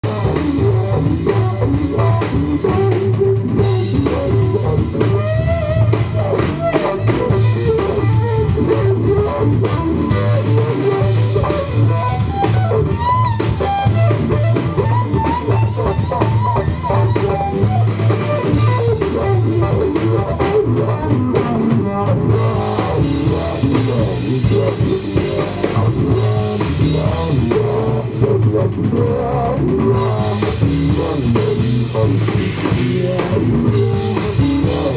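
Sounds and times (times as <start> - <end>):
bass guitar: 0.0 - 34.9
drum kit groove: 0.0 - 34.9
electric guitar lead: 0.0 - 34.9.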